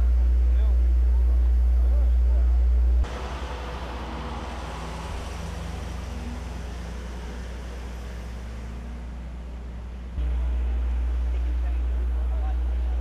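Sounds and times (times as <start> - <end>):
road noise: 0.0 - 13.0
vehicle engine rumbling: 0.0 - 13.0.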